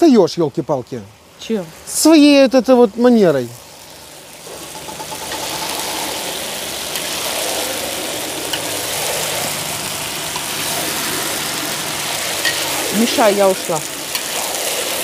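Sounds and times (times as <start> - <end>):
potatoes frying in pan: 0.0 - 15.0.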